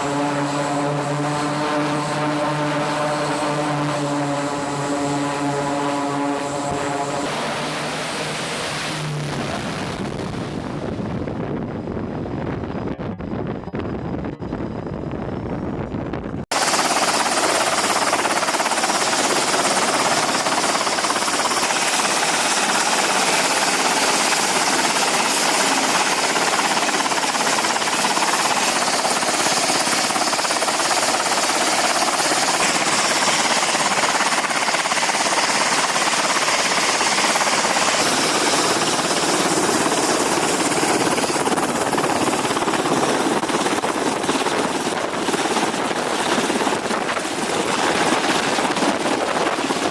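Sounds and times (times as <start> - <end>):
aircraft turbine engine whine: 0.0 - 49.9.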